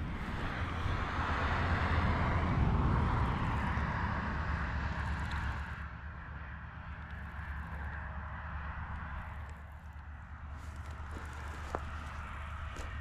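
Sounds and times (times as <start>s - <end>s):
motor vehicle passing by: 0.0s - 13.0s.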